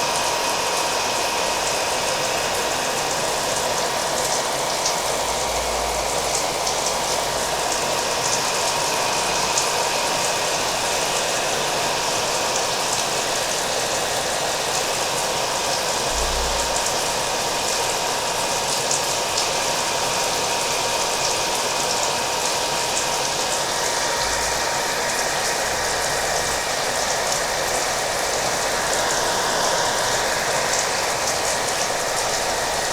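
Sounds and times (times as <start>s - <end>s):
hair dryer running: 0.0s - 32.9s.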